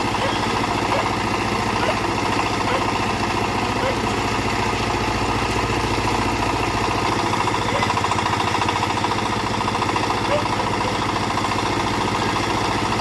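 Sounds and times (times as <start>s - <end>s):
backhoe engine running: 0.0s - 13.0s.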